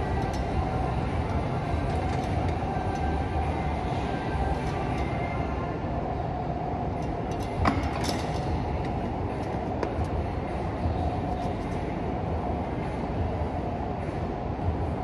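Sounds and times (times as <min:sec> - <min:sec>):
faint steady hum: 0:00.0 - 0:15.0
low mechanical rumble: 0:00.0 - 0:15.0.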